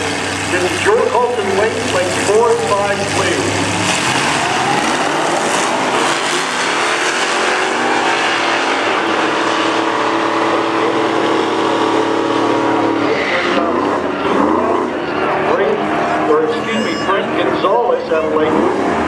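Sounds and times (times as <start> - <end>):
drag racing engines at full throttle: 0.0 - 19.0.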